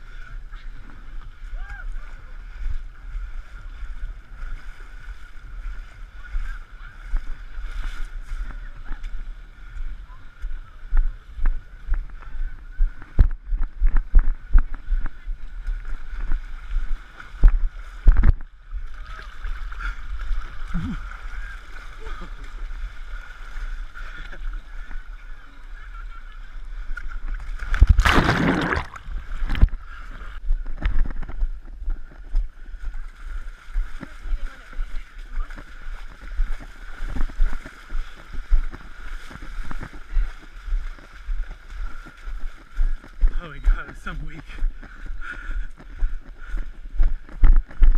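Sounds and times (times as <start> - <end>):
muddy water splashing: 0.0 - 47.9.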